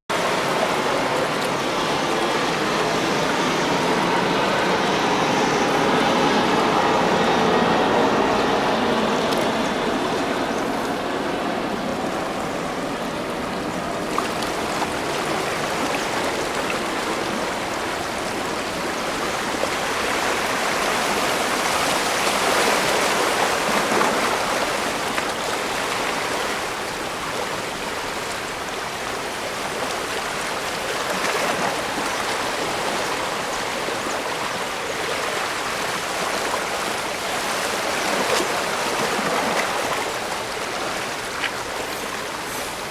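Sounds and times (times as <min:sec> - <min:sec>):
water rushing and splashing: 0:00.1 - 0:42.9.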